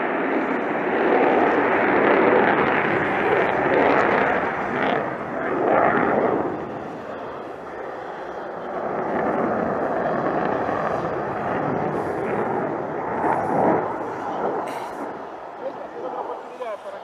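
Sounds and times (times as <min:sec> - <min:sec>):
jet engine rushing noise: 0:00.0 - 0:17.0.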